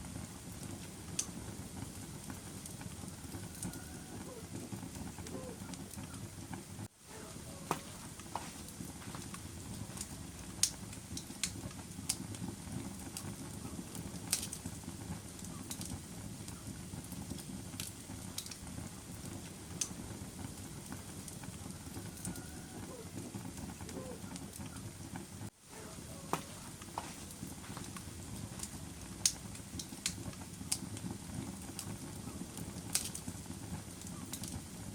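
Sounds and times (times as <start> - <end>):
fire crackling and popping: 0.0 - 34.9
rush of flames: 0.0 - 34.9.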